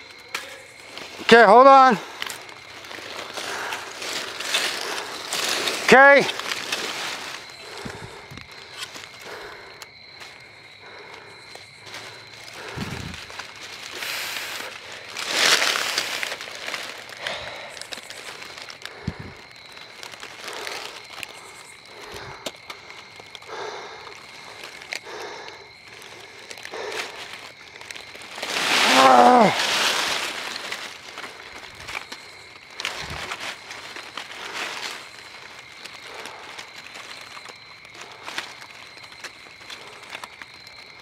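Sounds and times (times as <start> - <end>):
dry leaves rustling and crunching: 0.0 - 41.0
footsteps through leaves: 2.0 - 9.2, 11.4 - 23.3, 24.2 - 40.0.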